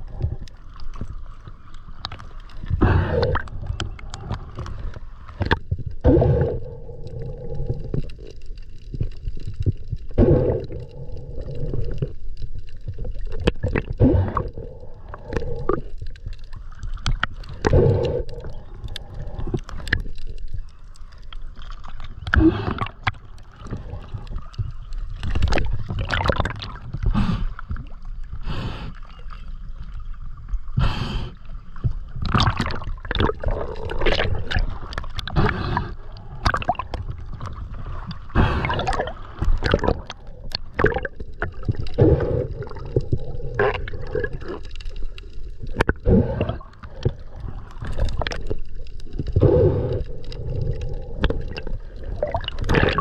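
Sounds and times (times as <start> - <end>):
water sloshing and gurgling: 0.0 - 53.0.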